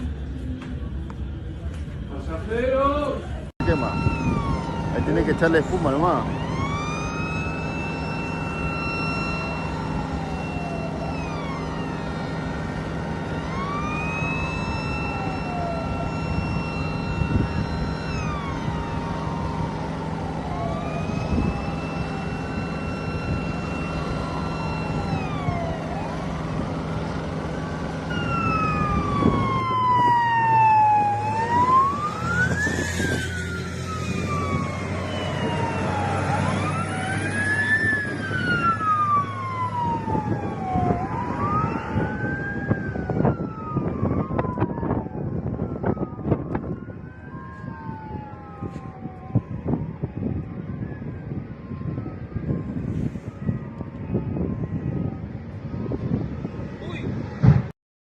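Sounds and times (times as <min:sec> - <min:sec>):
emergency sirens wailing: 0:00.0 - 0:57.7.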